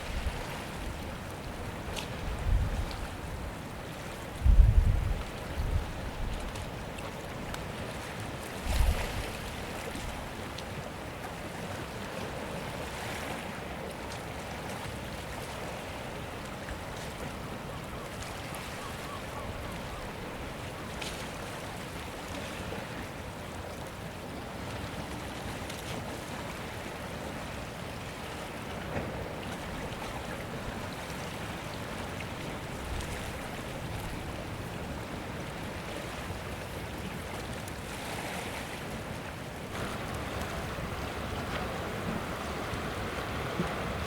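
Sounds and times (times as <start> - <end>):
sea waves on rocky shore: 0.0 - 44.0.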